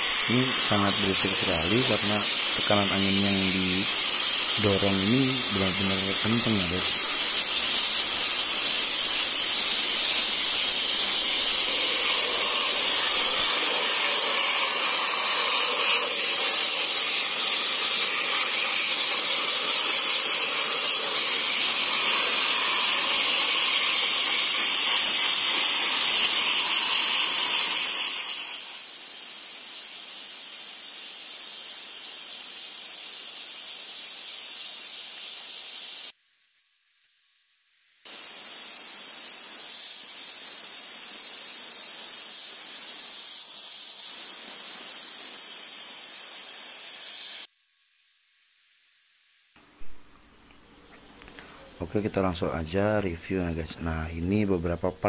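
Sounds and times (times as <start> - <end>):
sandblaster hissing: 0.0 - 36.2, 38.0 - 47.5, 51.1 - 55.0.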